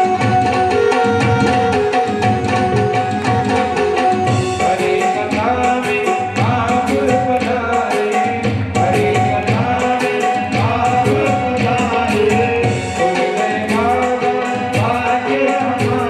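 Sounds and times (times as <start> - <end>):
person singing devotional melody: 0.0 - 16.0
tabla rhythm: 0.0 - 16.0.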